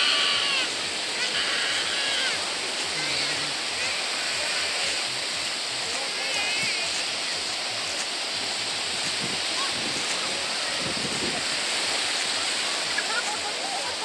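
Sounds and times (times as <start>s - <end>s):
waves washing on sandy shore: 0.0s - 14.0s.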